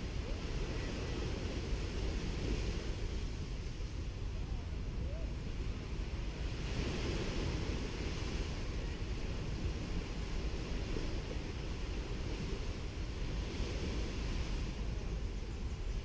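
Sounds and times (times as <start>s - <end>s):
waves washing onto sandy beach: 0.0s - 16.0s
wind rumble on microphone: 0.0s - 16.0s.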